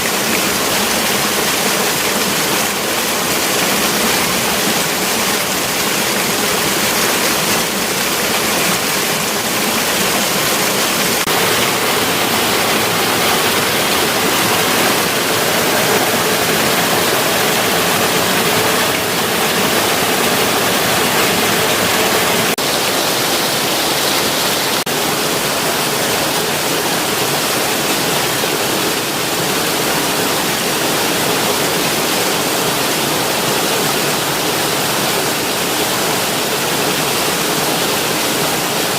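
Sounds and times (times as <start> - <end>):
loud rush of flowing water: 0.0 - 38.9.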